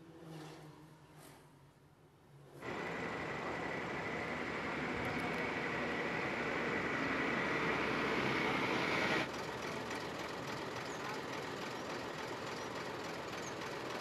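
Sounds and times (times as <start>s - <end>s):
roadside vehicle noise: 2.3s - 14.0s.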